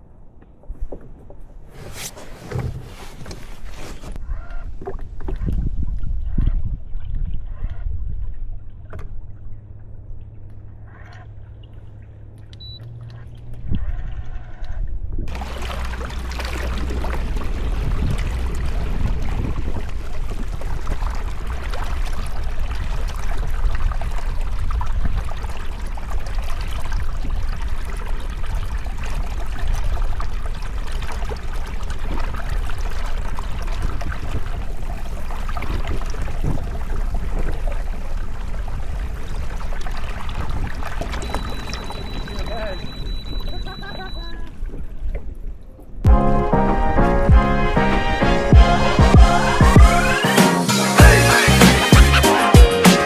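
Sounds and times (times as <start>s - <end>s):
water splashing around kayak: 0.0s - 46.4s.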